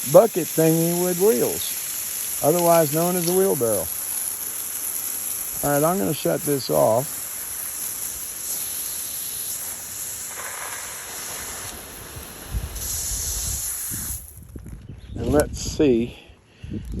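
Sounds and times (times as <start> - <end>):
spraying water hiss: 0.0 - 14.5.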